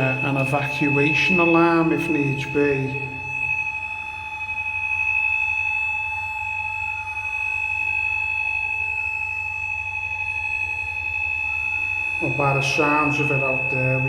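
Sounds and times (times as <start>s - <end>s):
distant fire engine siren: 0.0s - 14.0s
fire alarm two-note tone: 0.0s - 14.0s.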